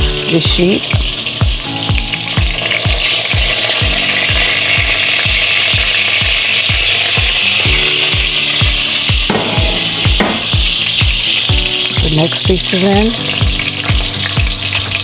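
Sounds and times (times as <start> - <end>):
background music beat: 0.0 - 15.0
chicken sizzling in hot oil: 0.0 - 15.0.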